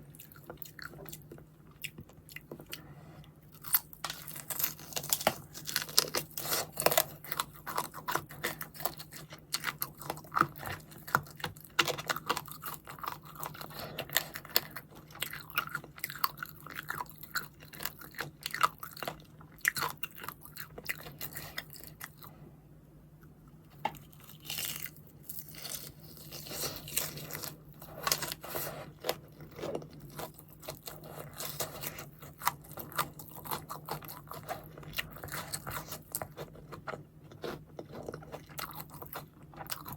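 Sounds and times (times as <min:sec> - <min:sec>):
crunching and chewing fried chicken: 0:00.0 - 0:22.5, 0:23.2 - 0:39.9
faint low hum: 0:00.0 - 0:39.9.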